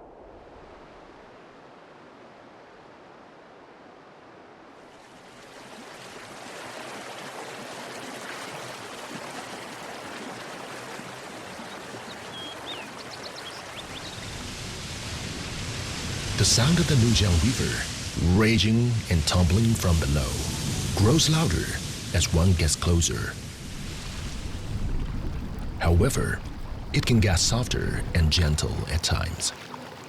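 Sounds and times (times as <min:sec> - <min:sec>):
rushing river water: 0:00.3 - 0:30.0.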